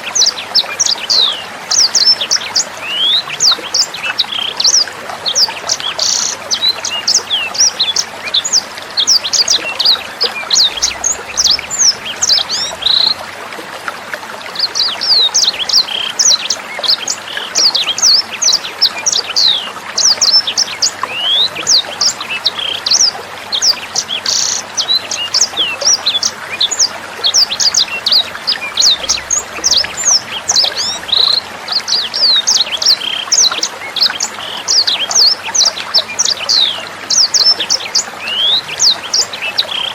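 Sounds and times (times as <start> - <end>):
songbird chirping: 0.0 - 13.4, 14.7 - 39.9
water trickling: 0.0 - 39.9.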